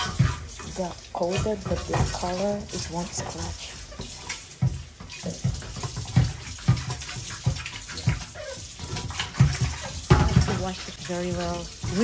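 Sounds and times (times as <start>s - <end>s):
sponge scrubbing pan: 0.0s - 12.0s
tap water splashing in sink: 0.0s - 12.0s.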